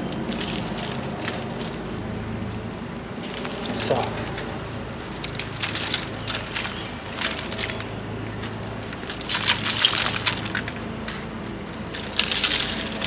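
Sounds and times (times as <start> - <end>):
hand stirring granular fertilizer: 0.0 - 2.0, 3.2 - 13.0.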